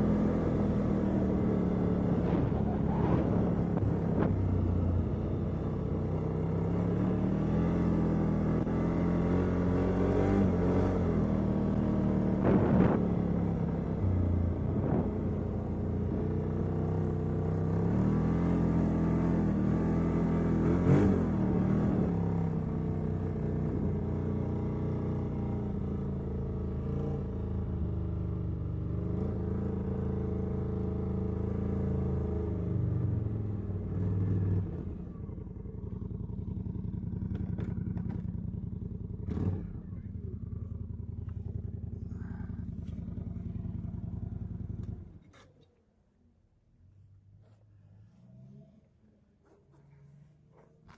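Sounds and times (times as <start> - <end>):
atv engine revving: 0.0 - 45.4.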